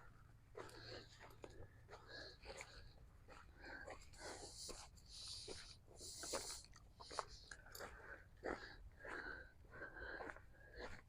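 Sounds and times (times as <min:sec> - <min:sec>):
footsteps on gravel and sand: 0:00.0 - 0:11.0.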